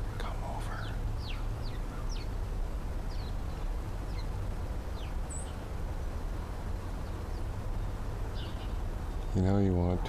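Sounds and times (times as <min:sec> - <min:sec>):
small birds chirping: 0:00.0 - 0:10.0
steady low rumble: 0:00.0 - 0:10.0.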